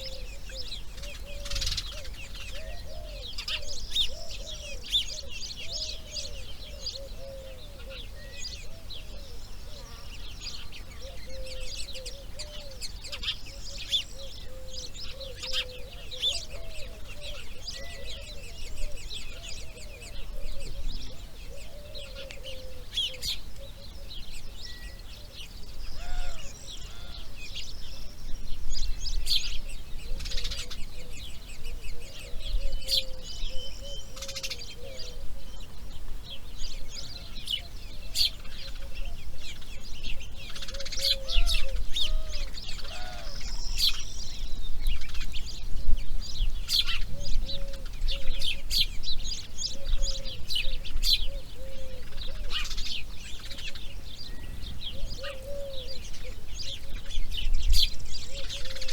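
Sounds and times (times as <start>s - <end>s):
small birds chirping and trilling: 0.0s - 58.9s.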